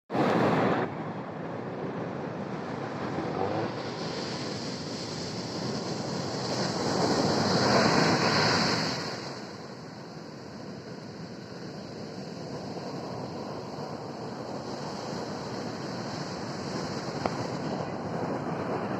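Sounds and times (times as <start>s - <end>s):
ocean surf crashing: 0.1s - 18.9s
wind on microphone: 0.1s - 18.9s.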